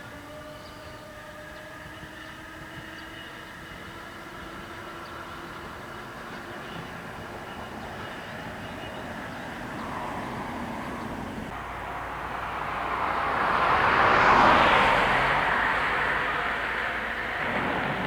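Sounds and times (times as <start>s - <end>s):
electric train passing: 1.0s - 18.0s.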